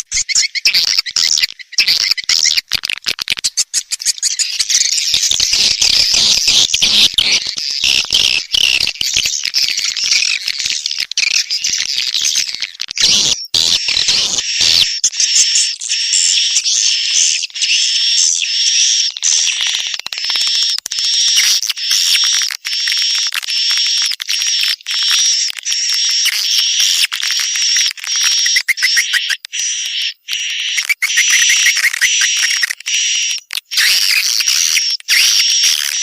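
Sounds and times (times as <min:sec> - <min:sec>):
swiftlets twittering: 0:03.4 - 0:36.0.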